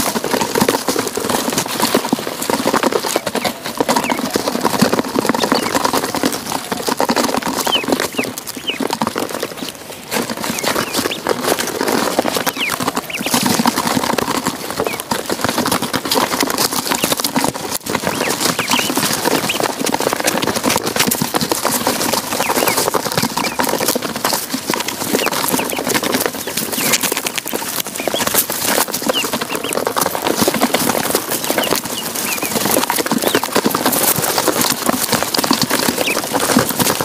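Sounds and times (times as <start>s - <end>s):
ducklings peeping: 0.6s - 37.0s.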